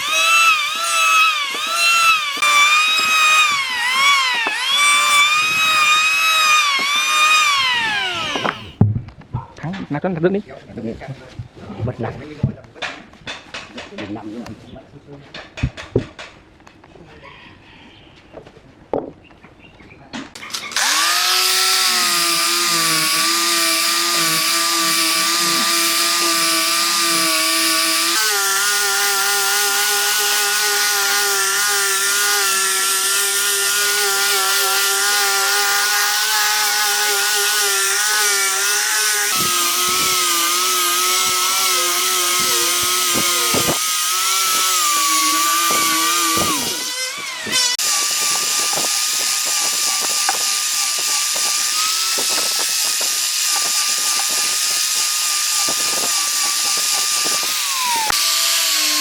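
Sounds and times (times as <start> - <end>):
power tool cutting log: 0.0 - 8.8, 20.4 - 59.0.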